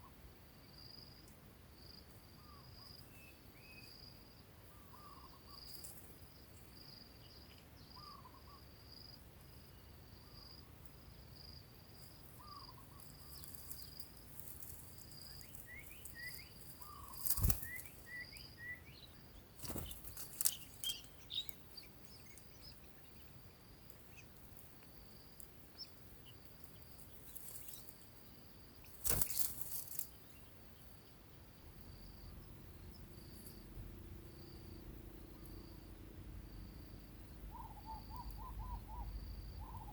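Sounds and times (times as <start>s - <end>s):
small birds chirping: 2.1s - 35.9s, 37.1s - 39.9s
cricket trilling: 2.4s - 31.2s, 36.5s - 39.9s.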